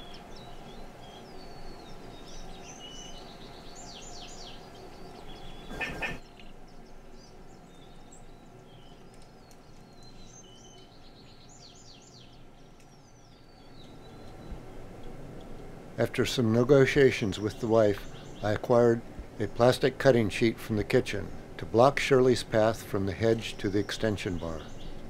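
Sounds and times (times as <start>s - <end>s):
songbirds singing: 0.0s - 25.0s
steady outdoor hum: 0.0s - 25.0s.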